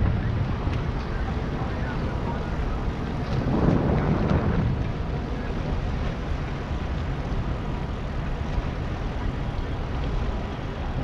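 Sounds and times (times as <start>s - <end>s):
ship engine rumble: 0.0s - 11.0s.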